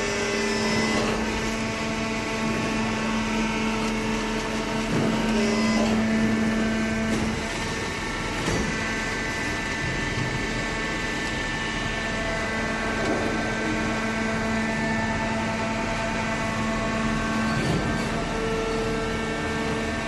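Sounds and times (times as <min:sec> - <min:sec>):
hydraulic baler humming: 0:00.0 - 0:20.0.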